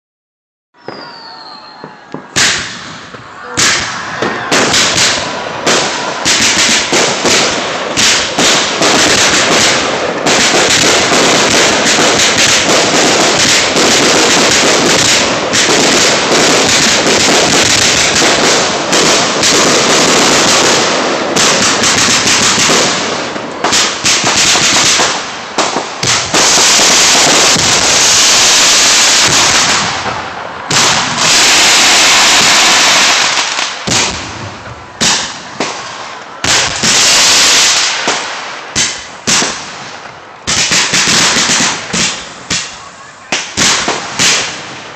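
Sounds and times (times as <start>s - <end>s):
fireworks bangs and crackle: 0.8s - 44.9s.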